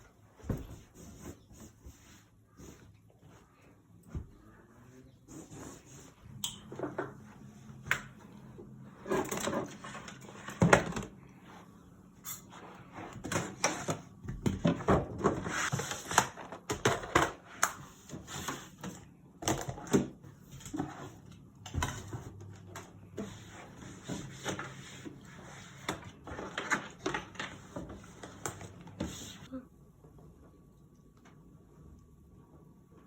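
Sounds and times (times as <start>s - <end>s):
household objects being handled: 0.0s - 29.5s.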